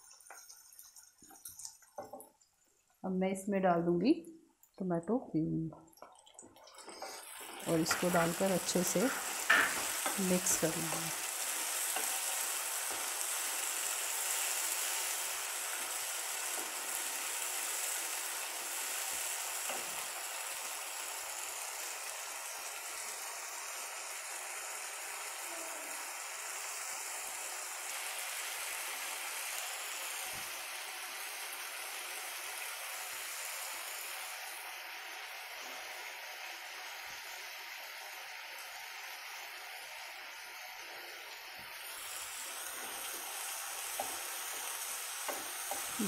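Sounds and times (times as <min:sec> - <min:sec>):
sauce frying in hot oil: 0:00.0 - 0:03.0, 0:05.8 - 0:46.0.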